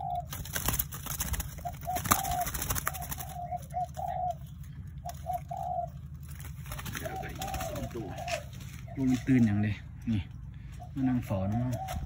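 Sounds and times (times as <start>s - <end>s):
dove cooing: 0.0s - 12.0s
low steady hum: 0.0s - 12.0s.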